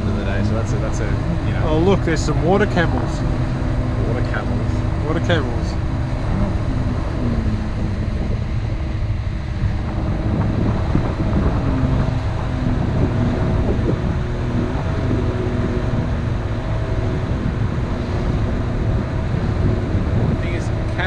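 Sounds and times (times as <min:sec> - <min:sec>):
boat engine running: 0:00.0 - 0:21.0
wind buffeting microphone: 0:00.0 - 0:21.0.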